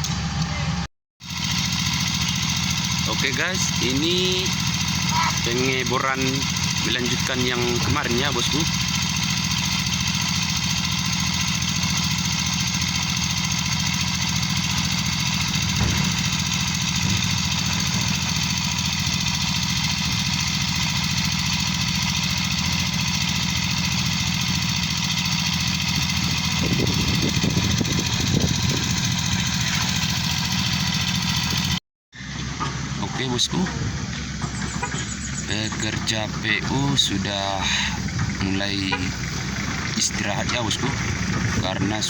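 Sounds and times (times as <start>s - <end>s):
heavy machinery diesel engine: 0.0s - 42.0s.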